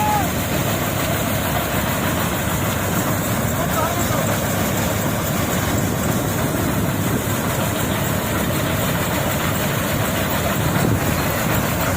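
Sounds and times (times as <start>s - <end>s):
harvesting machine running: 0.0s - 11.9s.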